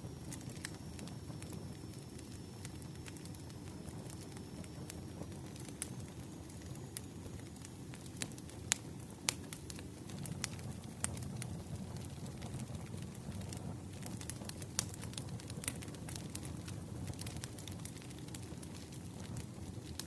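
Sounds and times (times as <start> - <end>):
fire popping and snapping: 0.0 - 20.0
wood fire rumbling: 0.0 - 20.0.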